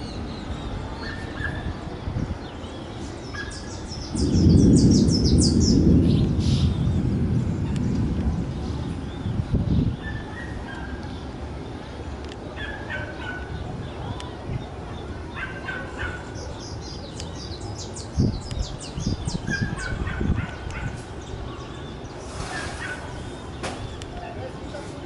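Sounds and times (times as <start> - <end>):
birds chirping: 0.0 - 25.0
wind buffeting microphone: 0.0 - 25.0.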